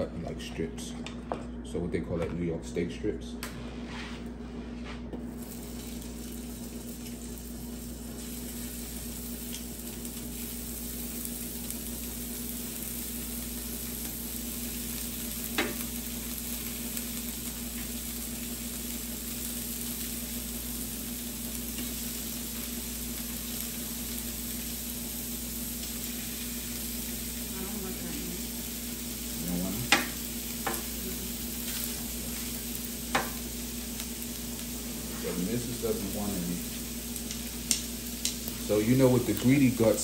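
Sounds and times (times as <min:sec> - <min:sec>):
steak sizzling on a griddle: 0:05.3 - 0:40.0.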